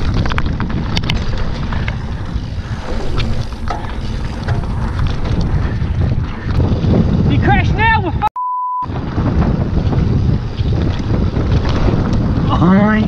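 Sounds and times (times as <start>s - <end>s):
bike rattling over bumps: 0.0s - 8.0s, 8.9s - 13.0s
bike tyres rolling on dirt: 0.0s - 8.1s, 8.9s - 13.0s
wind buffeting microphone: 0.0s - 8.3s, 8.9s - 13.0s.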